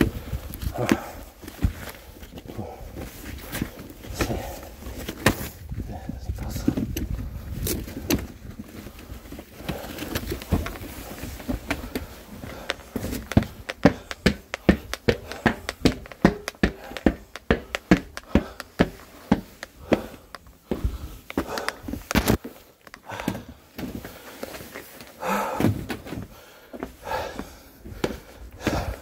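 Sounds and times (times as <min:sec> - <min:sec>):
footsteps on concrete stairs: 0:00.0 - 0:05.6, 0:06.5 - 0:29.0
shuffling steps: 0:00.5 - 0:29.0.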